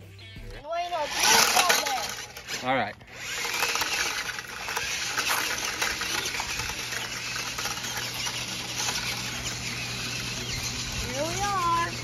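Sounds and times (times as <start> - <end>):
toy truck motor whirring: 0.7 - 12.0
small clicks and rattles: 1.1 - 11.7.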